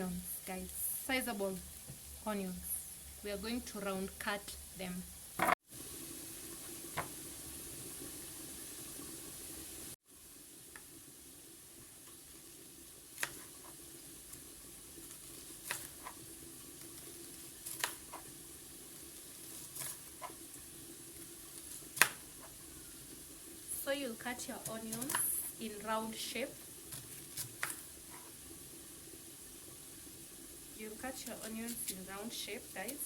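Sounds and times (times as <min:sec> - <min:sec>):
oil sizzling in frying pan: 0:00.0 - 0:33.0.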